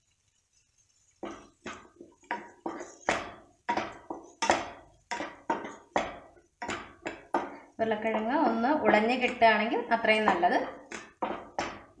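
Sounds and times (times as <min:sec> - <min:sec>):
spatula scraping and knocking pan: 0:00.1 - 0:12.0.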